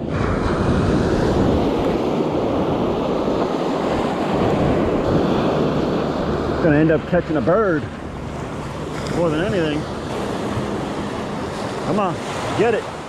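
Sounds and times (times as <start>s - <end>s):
surf washing through shallows: 0.0s - 13.0s
wind on the microphone: 0.0s - 13.0s.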